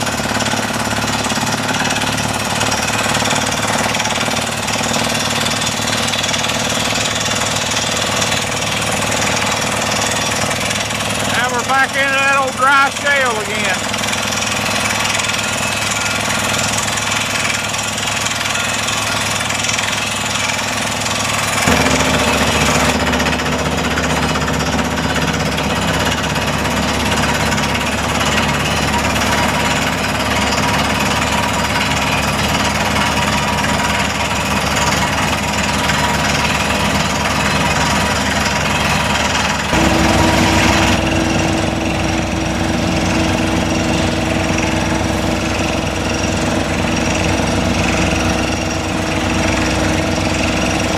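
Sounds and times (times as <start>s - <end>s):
air hammer pounding rapidly: 0.0s - 50.9s
drilling rig engine: 0.0s - 50.9s.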